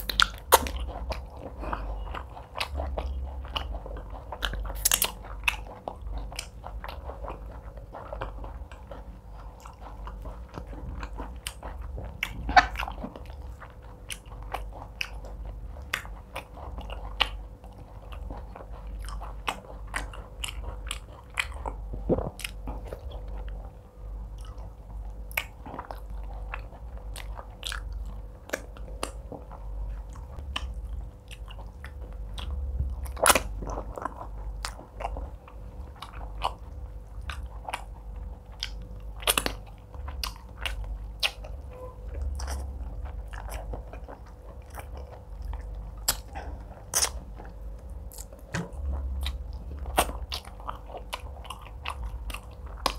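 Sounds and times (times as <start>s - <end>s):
wet chewing and lip smacks: 0.0s - 52.9s.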